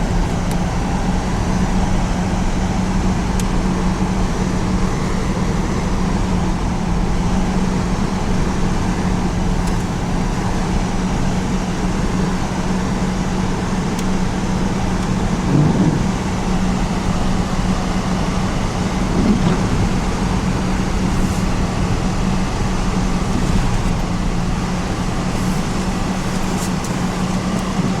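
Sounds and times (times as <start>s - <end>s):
engine running with low hum: 0.0s - 28.0s.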